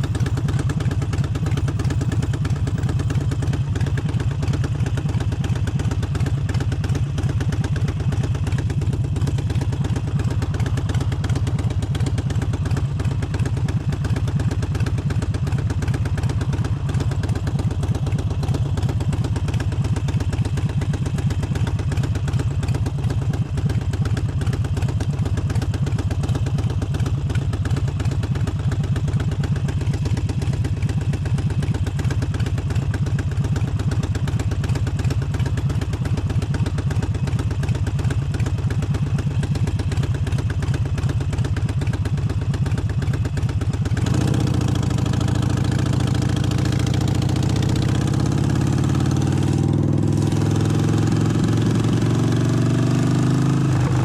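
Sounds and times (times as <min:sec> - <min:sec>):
motorcycle engine pulsing: 0:00.0 - 0:54.0.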